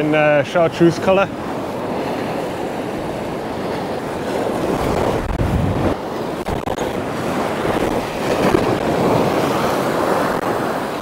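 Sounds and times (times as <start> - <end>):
surf breaking on shore: 0.0 - 11.0
wind rumbling on microphone: 0.8 - 11.0.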